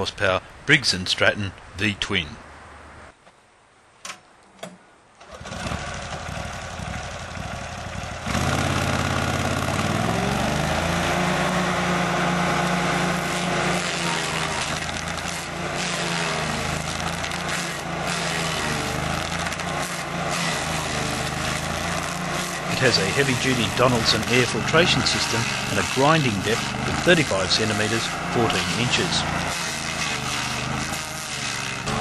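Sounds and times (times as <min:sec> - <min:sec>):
stump grinder engine revving: 0:05.2 - 0:32.0.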